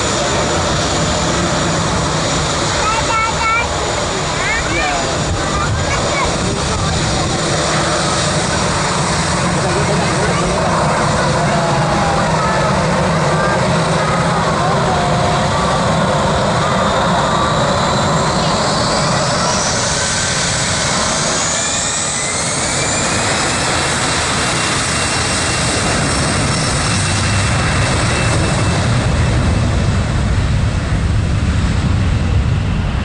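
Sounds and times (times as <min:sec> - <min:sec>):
high engine whine: 0:00.0 - 0:33.0
jet engines roaring: 0:00.0 - 0:33.0.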